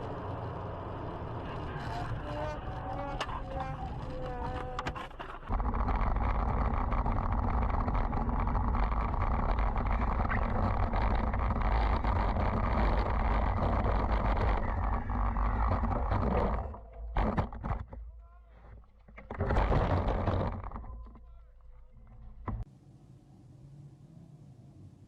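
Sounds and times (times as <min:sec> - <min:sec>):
vehicle rumble and road noise: 0:00.0 - 0:25.0.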